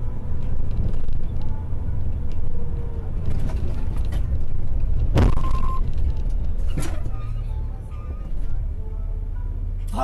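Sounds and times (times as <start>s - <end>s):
road rumble: 0.0s - 10.0s
truck engine rumble: 0.0s - 10.0s.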